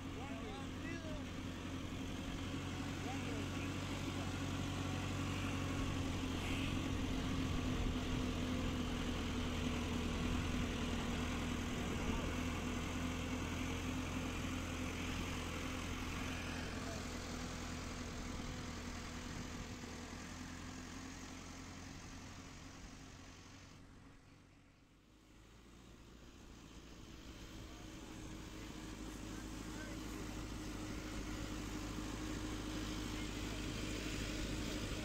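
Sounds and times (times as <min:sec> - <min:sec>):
farm machine engine running: 0:00.0 - 0:35.0.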